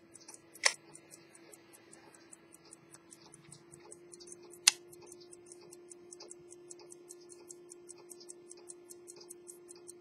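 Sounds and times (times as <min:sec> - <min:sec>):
pocket watch ticking: 0:00.0 - 0:10.0.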